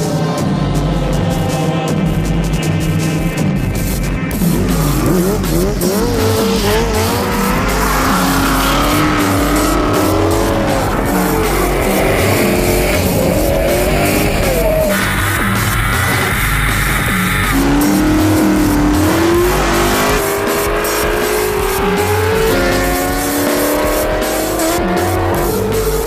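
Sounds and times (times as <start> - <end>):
car engine revving: 0.0 - 26.0
music with steady beat: 0.0 - 26.0
tyre squeal: 4.5 - 26.0.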